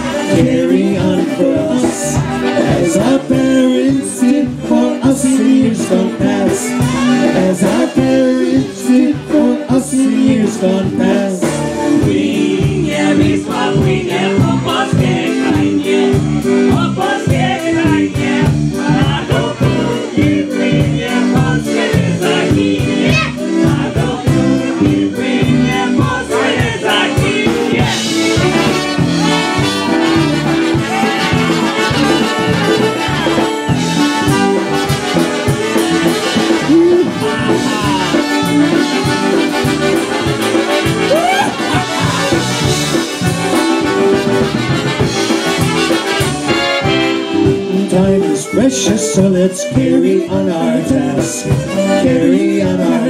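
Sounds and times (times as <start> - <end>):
accordion: 0.0 - 53.0
bass guitar: 0.0 - 53.0
drum kit beat: 0.0 - 53.0
polka band playing: 0.0 - 53.0.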